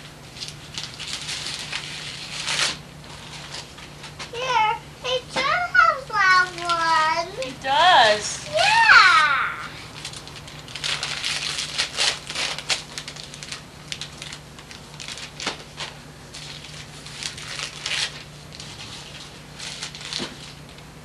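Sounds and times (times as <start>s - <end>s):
wrapping paper crinkling and tearing: 0.2s - 20.9s.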